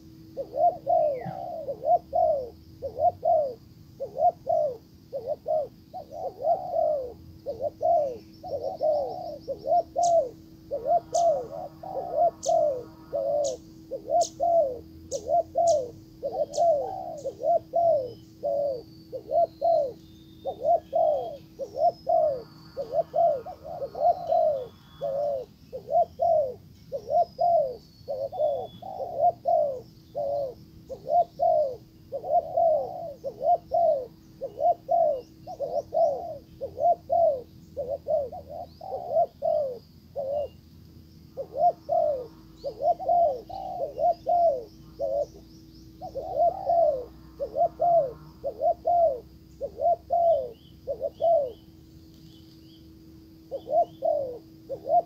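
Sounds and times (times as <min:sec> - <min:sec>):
dove cooing: 0:00.0 - 0:40.7, 0:41.3 - 0:55.0
small birds chirping: 0:00.0 - 0:55.0
steady low hum: 0:00.0 - 0:55.0.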